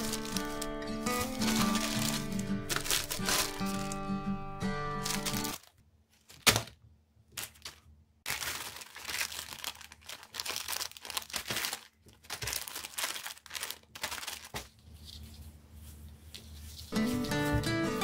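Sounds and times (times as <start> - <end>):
plastic bags crinkling: 0.0 - 6.7, 7.3 - 15.2.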